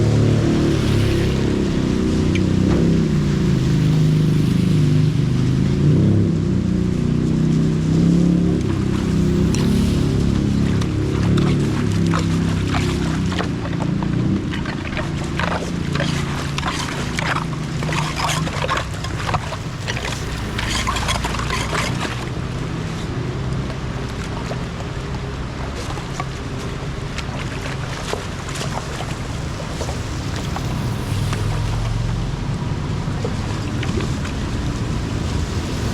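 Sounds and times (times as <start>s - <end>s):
rain: 0.0s - 35.9s
rushing floodwater: 0.0s - 35.9s
splashes and clatters: 0.0s - 35.9s.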